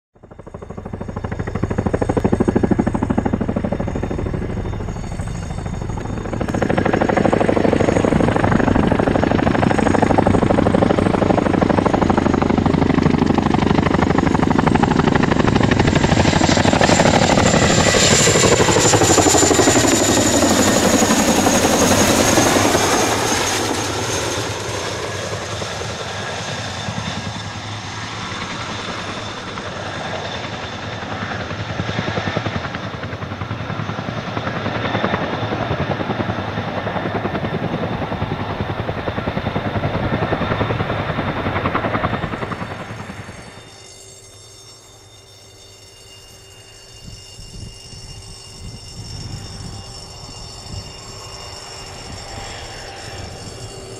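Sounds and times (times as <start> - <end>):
turbine whine: 0.2 - 53.9
helicopter rotor thudding: 0.3 - 43.7.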